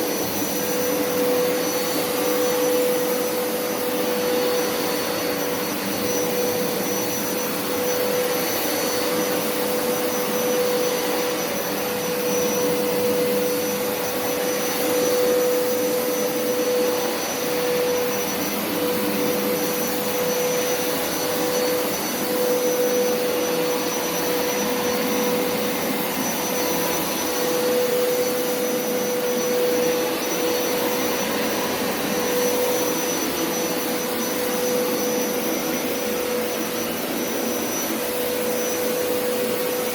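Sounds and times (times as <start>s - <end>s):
carpet washer motor whine: 0.0s - 39.9s.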